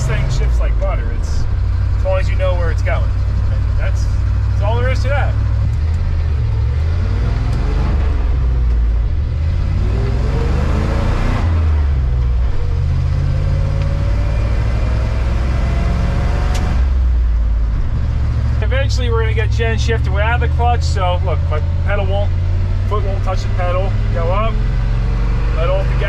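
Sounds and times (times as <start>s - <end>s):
truck engine accelerating: 0.0s - 26.0s.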